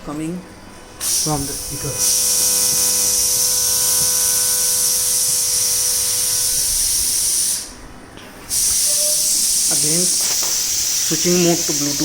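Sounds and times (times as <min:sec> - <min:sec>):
loud speaker hiss: 0:01.0 - 0:07.7, 0:08.5 - 0:12.0.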